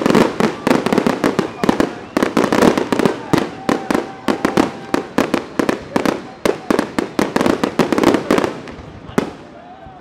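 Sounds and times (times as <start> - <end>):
fireworks cracking and banging: 0.0 - 9.9.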